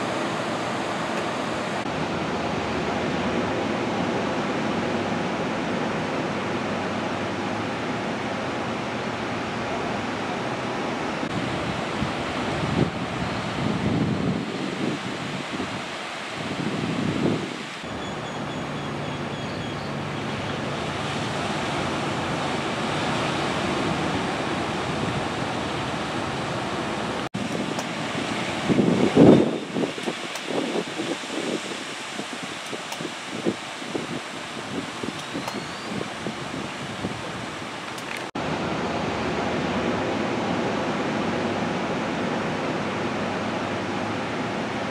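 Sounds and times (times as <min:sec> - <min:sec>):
ocean surf breaking: 0:00.0 - 0:44.9
wind on microphone: 0:00.0 - 0:44.9.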